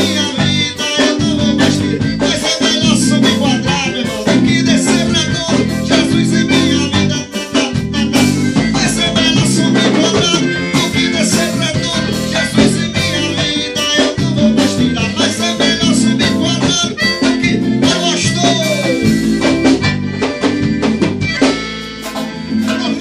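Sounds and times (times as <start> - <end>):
band playing upbeat music: 0.0 - 23.0
bass guitar: 0.0 - 23.0
congas: 0.0 - 23.0
drum kit: 0.0 - 23.0.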